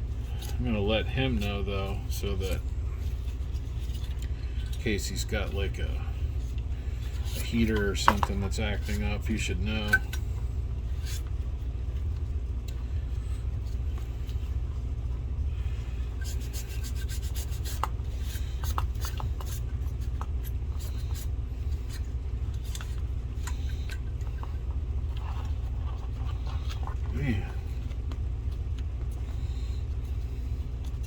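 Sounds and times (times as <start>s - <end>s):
light rubbing on plastic: 0.0s - 31.0s
steady low hum: 0.0s - 31.0s.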